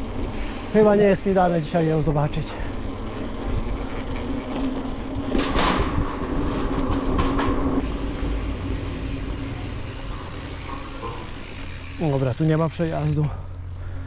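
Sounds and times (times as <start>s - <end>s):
bicycle tyres and drivetrain rumble: 0.0s - 14.0s.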